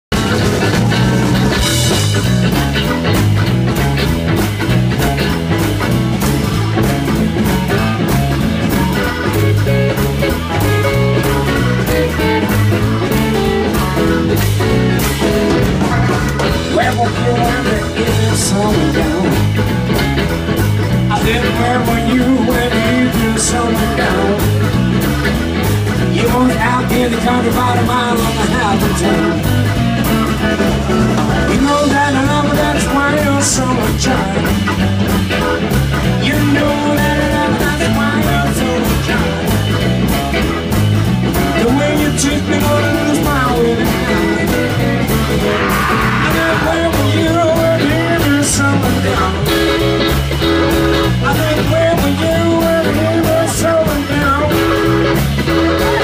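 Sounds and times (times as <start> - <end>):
bass guitar: 0.0 - 56.0
drums: 0.0 - 56.0
electric guitars: 0.1 - 56.0.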